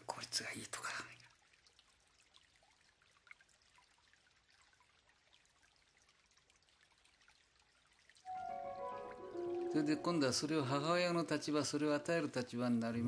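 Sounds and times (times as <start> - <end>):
faint water trickle: 0.0 - 13.0.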